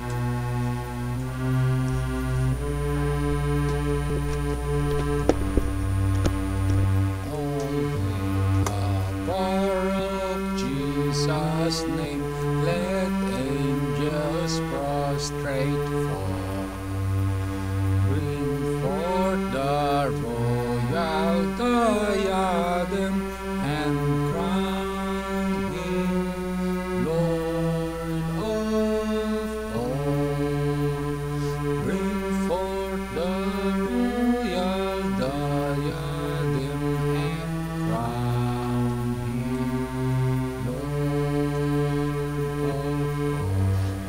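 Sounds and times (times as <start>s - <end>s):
held chord notes: 0.0s - 44.0s
person singing bass a cappella: 0.0s - 44.0s.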